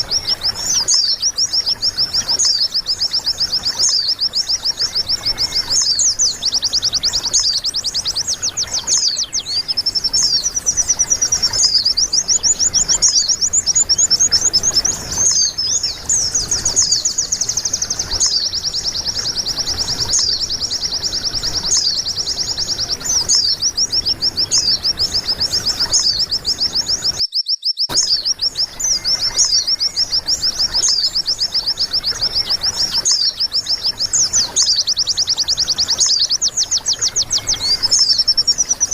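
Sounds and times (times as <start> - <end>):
white-eye birdsong twittering: 0.0 - 38.9.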